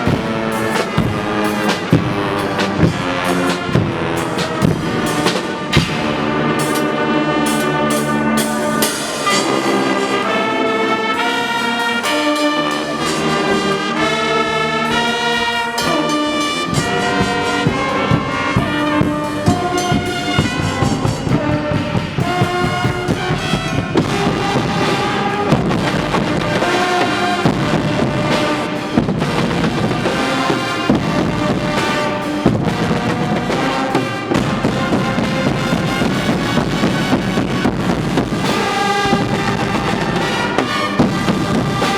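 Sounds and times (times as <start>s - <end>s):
brass band playing: 0.0s - 41.9s
drums and percussion: 0.0s - 41.9s.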